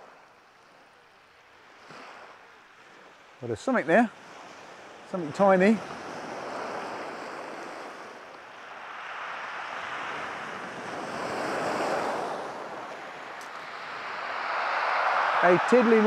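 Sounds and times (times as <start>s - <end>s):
waves breaking on shingle beach: 0.0s - 16.0s.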